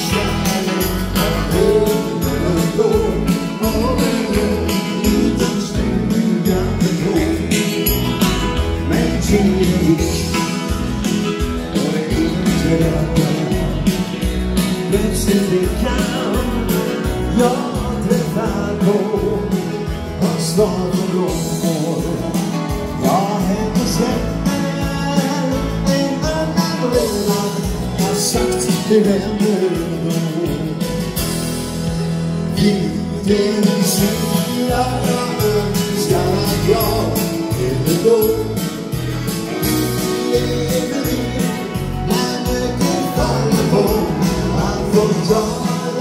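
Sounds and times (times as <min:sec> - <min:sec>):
dance band music through pa: 0:00.0 - 0:46.0.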